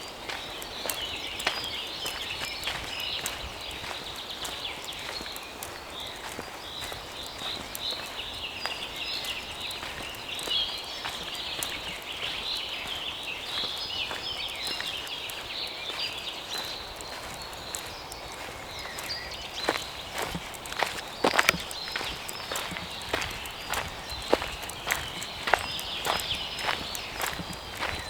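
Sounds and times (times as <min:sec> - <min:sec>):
birds chirping: 0:00.0 - 0:28.0
footsteps crunching on dry leaves: 0:00.0 - 0:28.0.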